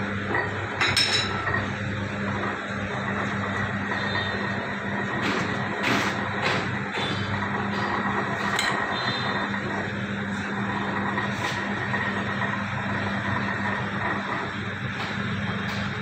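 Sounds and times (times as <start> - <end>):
machine motor humming: 0.0 - 16.0.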